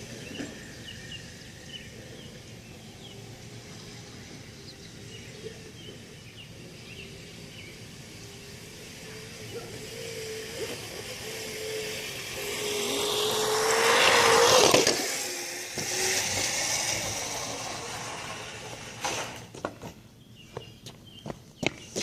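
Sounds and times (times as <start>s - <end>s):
electric scooter motor whine: 0.0s - 19.6s.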